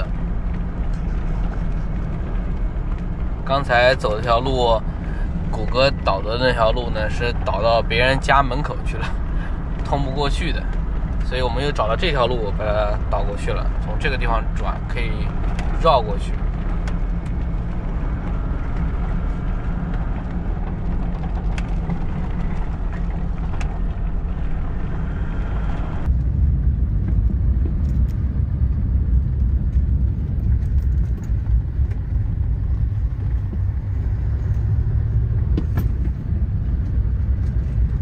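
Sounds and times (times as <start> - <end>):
vehicle engine and road rumble: 0.0 - 38.0.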